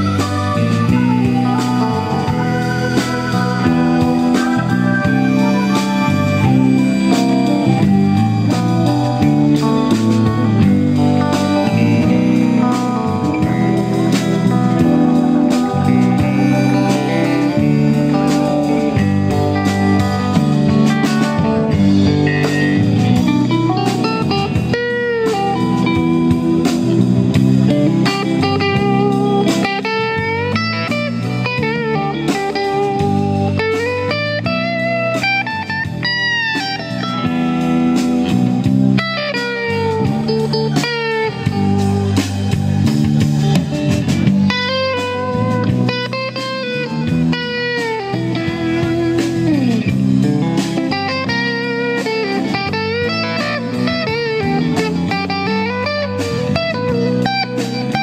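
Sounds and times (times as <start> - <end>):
blues-rock band playing: 0.0 - 58.0
electric guitar lead with bends: 0.0 - 58.0.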